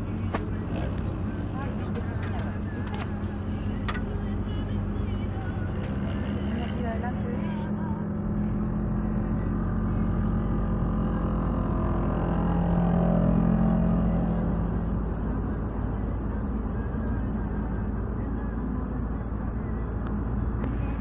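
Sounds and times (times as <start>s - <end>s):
car engine and road noise: 0.0s - 21.0s
quad bike and motorcycle engines: 0.0s - 21.0s.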